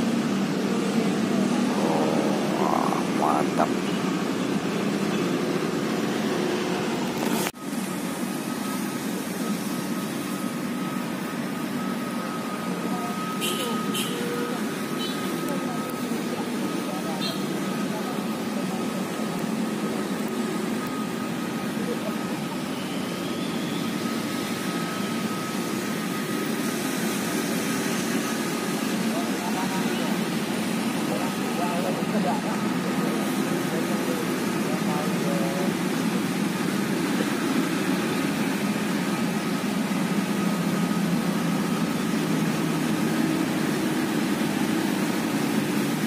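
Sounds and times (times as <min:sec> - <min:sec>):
city road traffic hum: 0:00.0 - 0:46.0.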